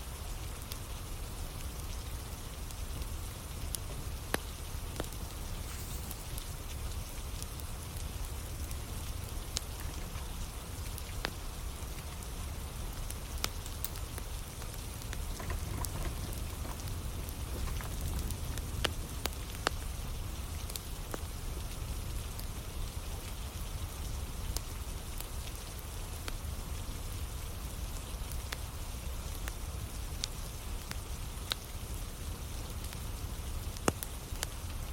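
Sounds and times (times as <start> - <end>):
steady rain: 0.0 - 34.9
wood fire crackling and popping: 1.5 - 23.3, 27.2 - 34.9.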